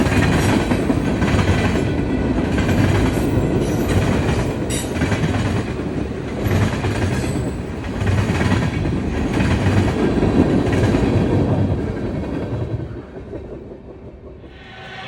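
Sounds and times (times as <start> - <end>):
railroad cars rumbling and clattering: 0.0 - 15.0.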